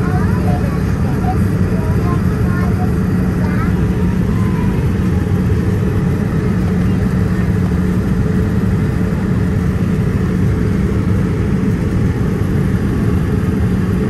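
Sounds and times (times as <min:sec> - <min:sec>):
loud low engine drone: 0:00.0 - 0:14.0.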